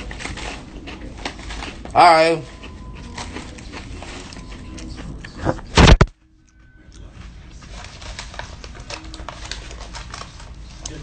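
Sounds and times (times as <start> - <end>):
room background noise: 0.0 - 11.0.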